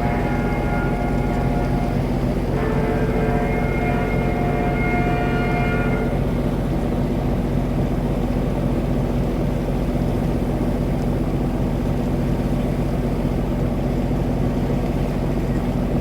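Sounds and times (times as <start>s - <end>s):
boat engine drone: 0.0s - 16.0s.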